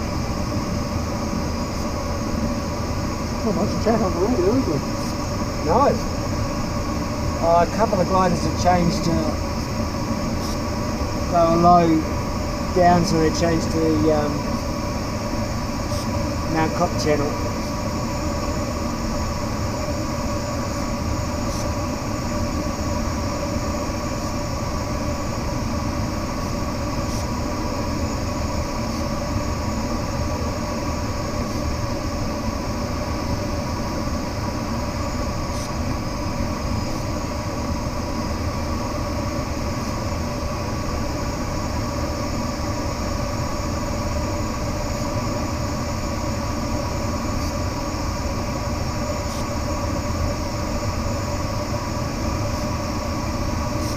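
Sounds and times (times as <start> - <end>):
airflow rushing in cockpit: 0.0 - 53.9.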